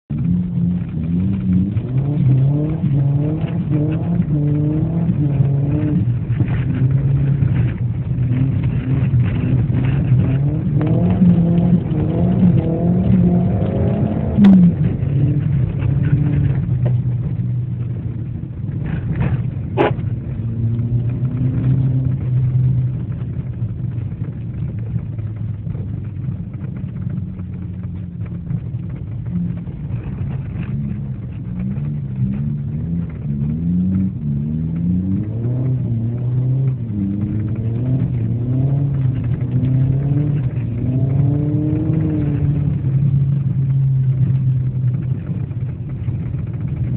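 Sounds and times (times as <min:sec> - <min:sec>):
car engine revving: 0:00.1 - 0:46.9.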